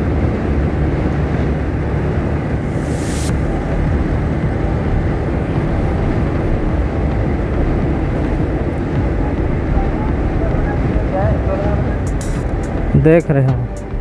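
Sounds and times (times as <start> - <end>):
motorcycle engine running: 0.0 - 13.1
motorcycle road noise: 0.0 - 14.0
wind rush: 0.0 - 14.0.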